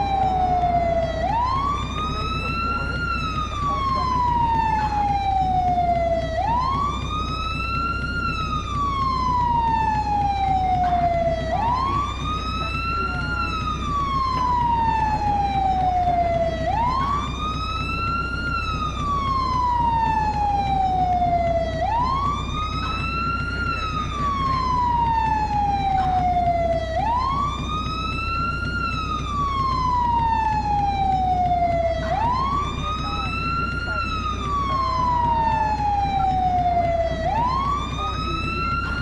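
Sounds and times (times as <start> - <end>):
fire truck siren wailing: 0.0 - 39.0
steady low rumble: 0.0 - 39.0.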